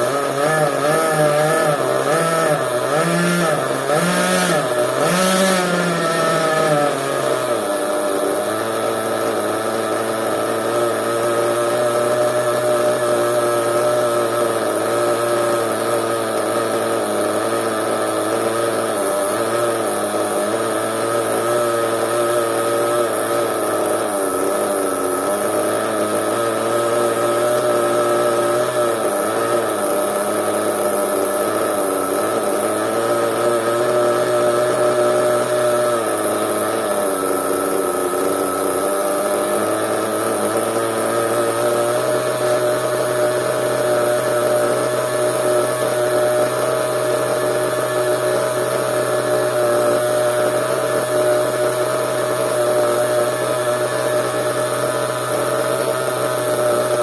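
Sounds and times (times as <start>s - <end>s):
small model engine idling: 0.0s - 57.0s.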